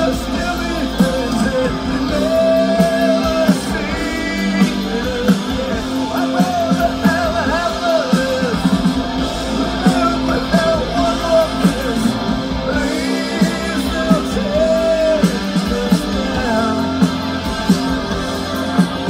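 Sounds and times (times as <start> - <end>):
live rock band playing loud: 0.0 - 19.0.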